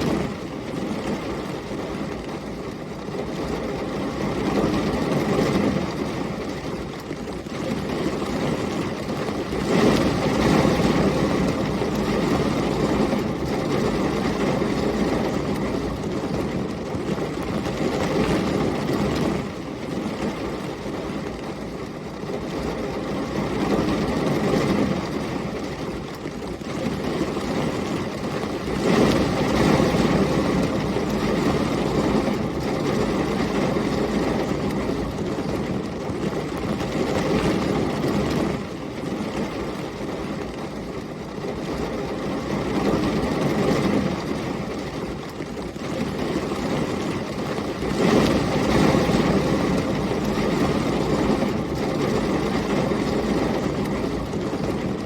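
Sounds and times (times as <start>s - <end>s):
heavy rain: 0.0s - 55.0s
storm wind: 0.0s - 55.0s.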